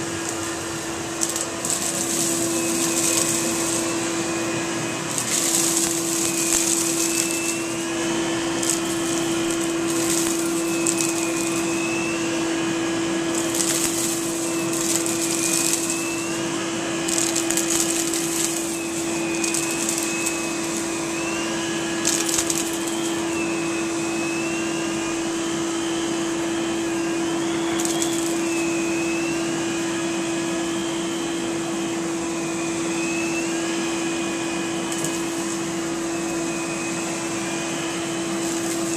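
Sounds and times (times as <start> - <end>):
hissing airflow: 0.0 - 31.0, 32.7 - 38.9
vacuum motor hum and whine: 0.0 - 38.9.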